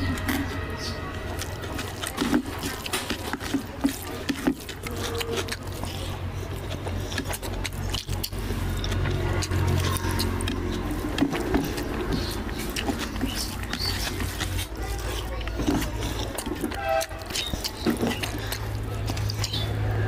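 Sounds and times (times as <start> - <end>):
chewing: 0.0 - 20.0
hand squishing food: 0.0 - 20.0.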